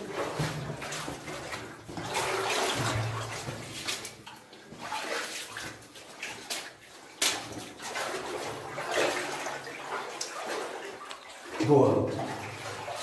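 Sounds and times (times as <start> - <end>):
footsteps splashing through water: 0.0 - 13.0.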